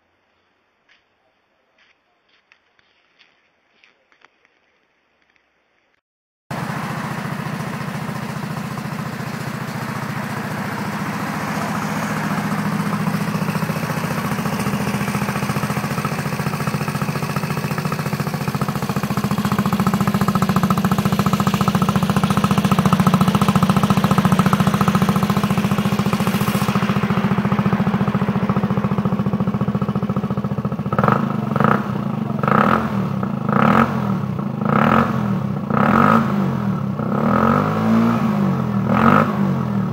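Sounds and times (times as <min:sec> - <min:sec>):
scooter engine idling: 0:06.5 - 0:39.9
scooter engine revving: 0:06.5 - 0:39.9.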